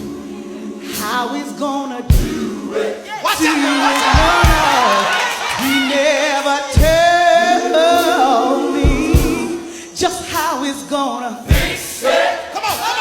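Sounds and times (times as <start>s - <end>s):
gospel singing voices: 0.0s - 13.0s.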